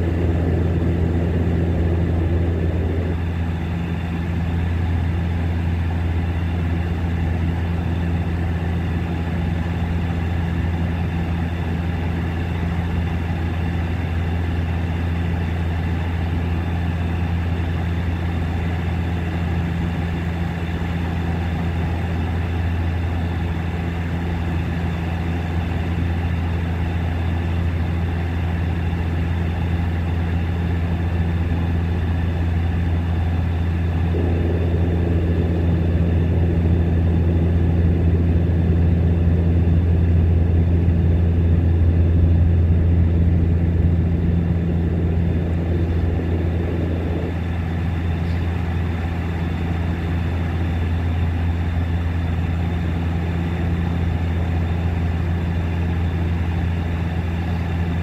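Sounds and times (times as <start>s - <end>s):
propeller drone in cabin: 0.0s - 58.0s.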